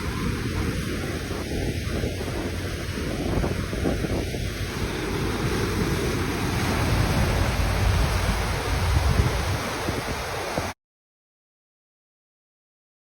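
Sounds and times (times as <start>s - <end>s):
wind on microphone: 0.0s - 10.8s.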